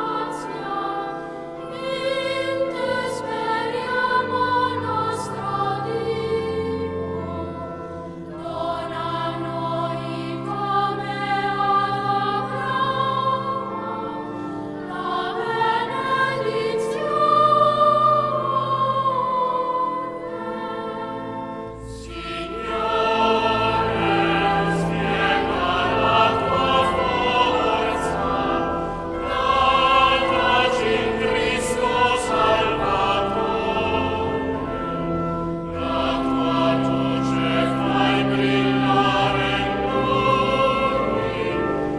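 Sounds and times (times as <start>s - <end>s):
choral singing: 0.0s - 41.9s.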